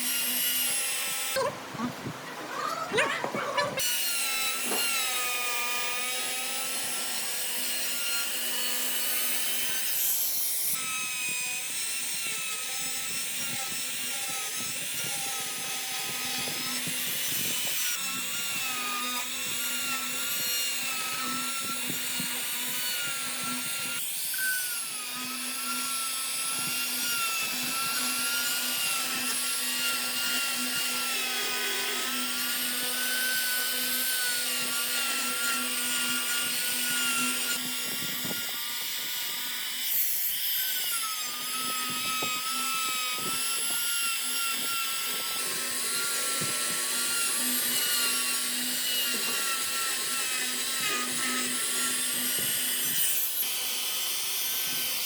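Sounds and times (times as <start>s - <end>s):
power tool motor whine: 0.0s - 1.8s, 3.8s - 55.0s.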